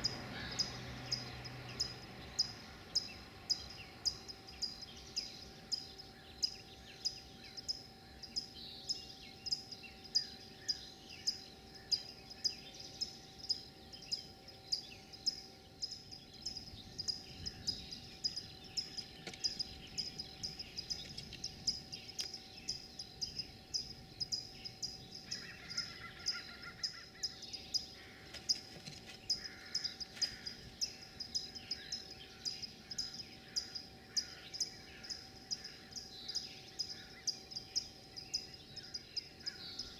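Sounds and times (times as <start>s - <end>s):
faint background hum: 0.0s - 39.9s.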